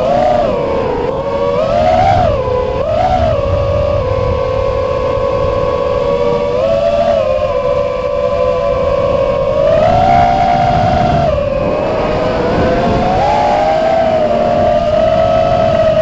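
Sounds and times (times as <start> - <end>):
drone motors whining: 0.0 - 16.0
wind rush on microphone: 0.0 - 16.0.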